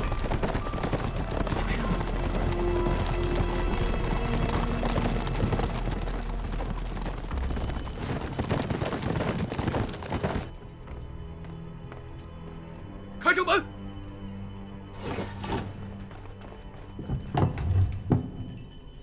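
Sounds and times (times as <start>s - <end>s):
horse hooves clattering: 0.0s - 12.7s, 15.2s - 19.0s
background music: 0.0s - 19.0s.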